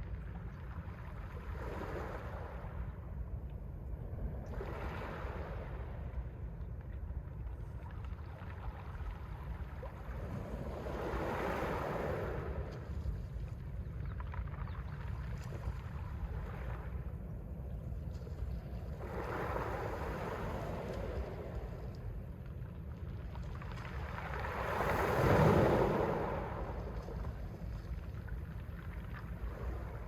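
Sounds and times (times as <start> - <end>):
wind rumble on microphone: 0.0 - 30.0
small waves washing onto shore: 4.4 - 30.0.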